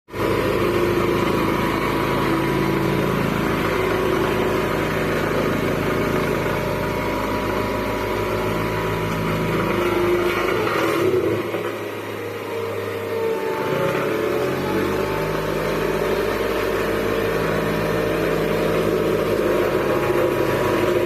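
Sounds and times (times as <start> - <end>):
road roller diesel engine rumble: 0.1 - 21.0.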